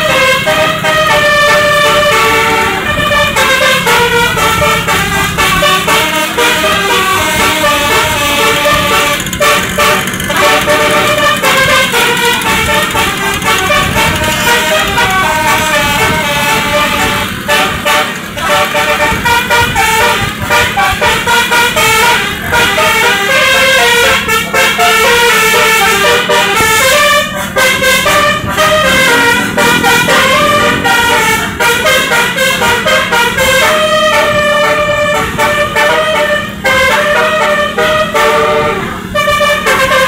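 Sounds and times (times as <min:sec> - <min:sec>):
bus air horn playing a tune: 0:00.0 - 0:40.0.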